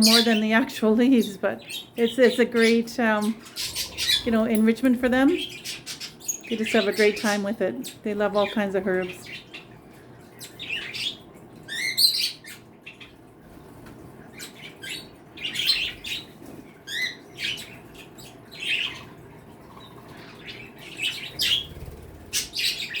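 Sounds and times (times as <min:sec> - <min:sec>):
pet birds chirping and squawking: 0:00.0 - 0:23.0.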